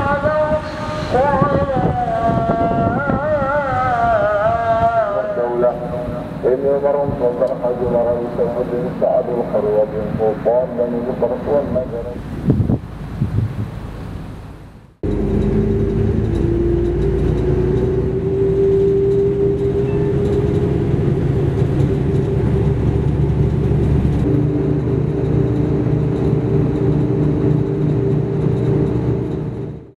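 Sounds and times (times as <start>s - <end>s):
tyre and road rumble: 0.0s - 29.9s
engine drone: 0.0s - 30.0s.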